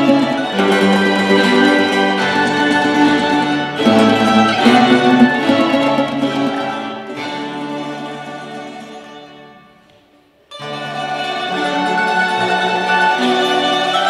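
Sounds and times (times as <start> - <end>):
tamburas strumming and tremolo picking: 0.0 - 14.0.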